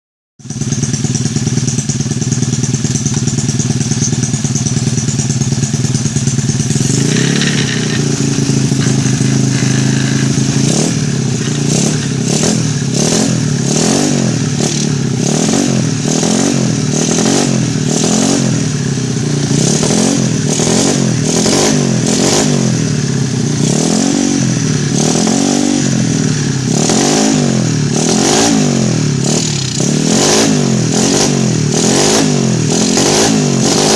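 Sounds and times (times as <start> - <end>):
scooter engine idling and revving: 0.4 - 33.9.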